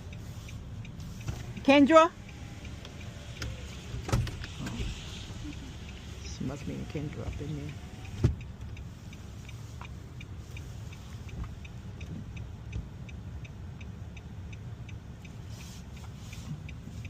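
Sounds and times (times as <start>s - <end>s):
car engine idling: 0.0s - 17.0s
turn signal ticking: 0.0s - 17.0s.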